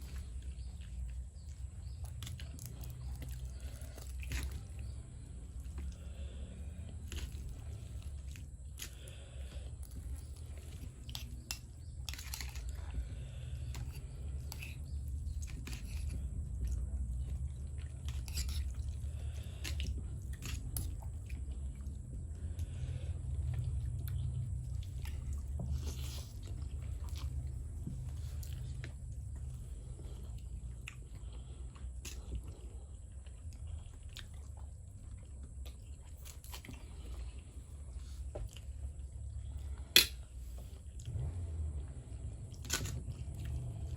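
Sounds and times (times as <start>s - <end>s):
person chewing noodles: 0.0s - 43.9s
steady low hum: 0.0s - 43.9s.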